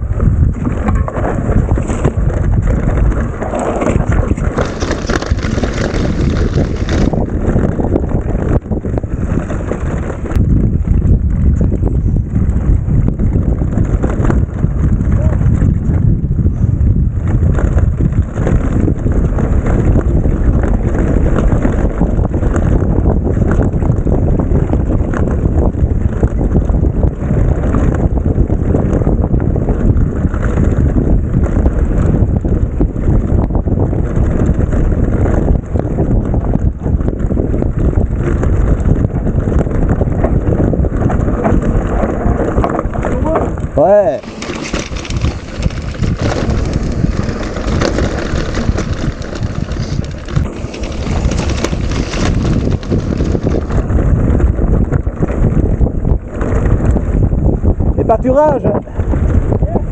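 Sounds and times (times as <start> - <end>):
bike tyres rattling over rough trail: 0.0 - 59.9
wind buffeting microphone: 0.0 - 59.9.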